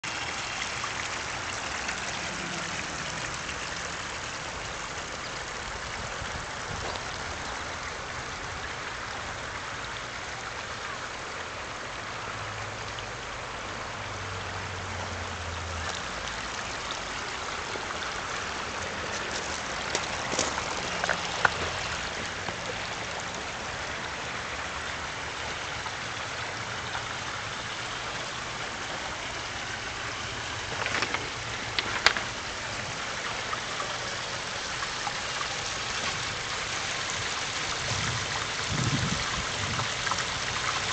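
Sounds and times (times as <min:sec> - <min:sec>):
water rushing over small waterfall: 0:00.0 - 0:40.9.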